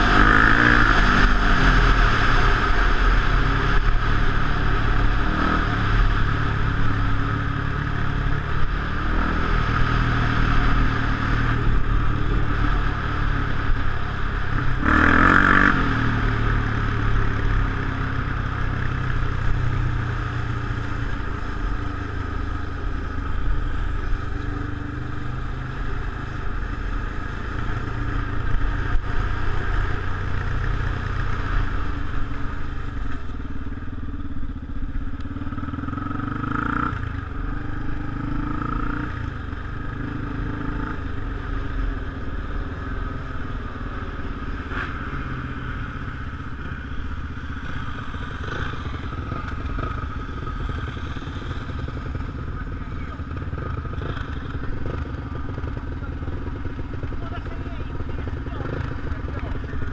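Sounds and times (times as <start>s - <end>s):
off-road motorcycle engine: 0.0s - 59.9s.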